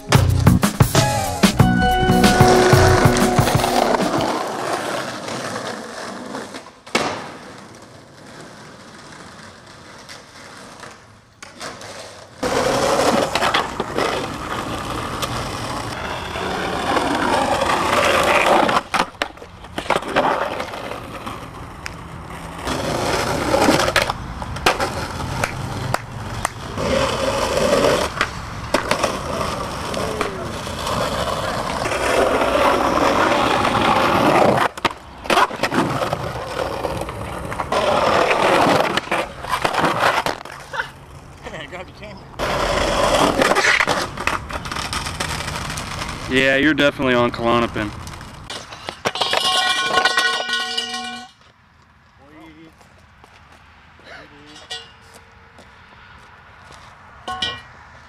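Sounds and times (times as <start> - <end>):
skateboard wheels rolling on concrete: 0.0 - 58.0
skateboard trucks grinding ledge: 0.4 - 41.4, 42.4 - 51.4
skateboard clacking on ground: 2.4 - 41.6, 42.4 - 46.7, 47.5 - 51.6, 57.2 - 57.8.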